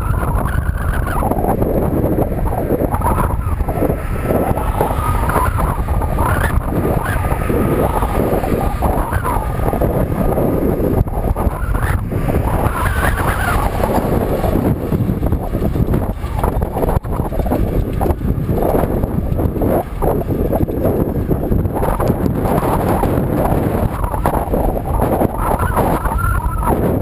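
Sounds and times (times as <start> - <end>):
road traffic passing: 0.0 - 27.0
wind buffeting microphone: 0.0 - 27.0.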